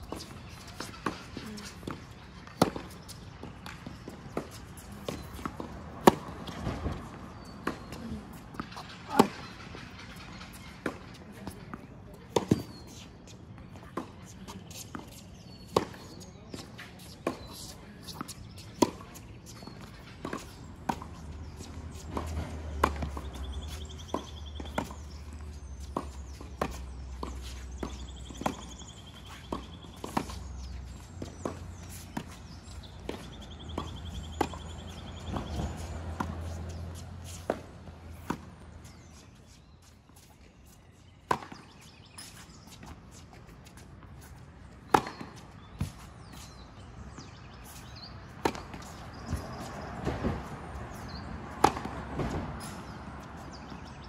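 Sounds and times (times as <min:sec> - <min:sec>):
tennis ball hits and bounces: 0:00.0 - 0:54.0.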